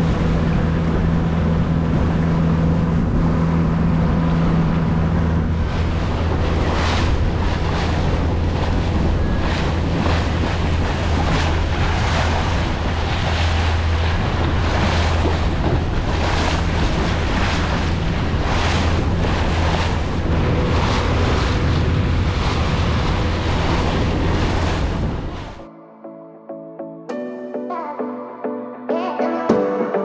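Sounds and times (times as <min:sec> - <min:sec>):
hull splashing through water: 0:00.0 - 0:25.6
outboard motor hum: 0:00.0 - 0:25.7
wind buffeting microphone: 0:00.0 - 0:25.7.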